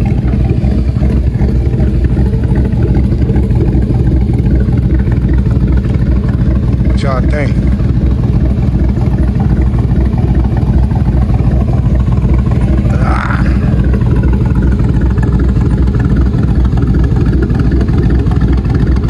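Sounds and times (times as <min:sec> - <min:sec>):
engine idling low rumble: 0:00.0 - 0:19.0.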